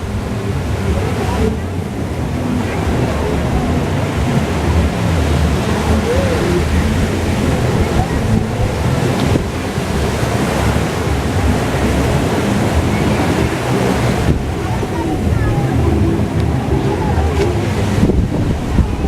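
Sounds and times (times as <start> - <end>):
heavy low rumble: 0.0 - 19.0
rushing water: 0.0 - 19.0
wind buffeting microphone: 0.0 - 19.0.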